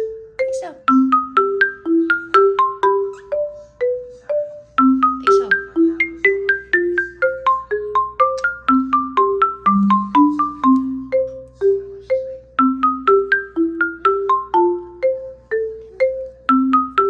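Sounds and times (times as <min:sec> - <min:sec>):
bouncy marimba-like melody: 0:00.0 - 0:17.0.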